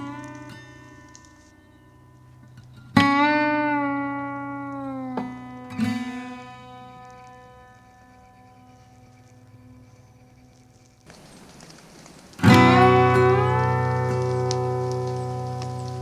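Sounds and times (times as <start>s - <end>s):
slow plucked guitar: 0.0s - 16.0s.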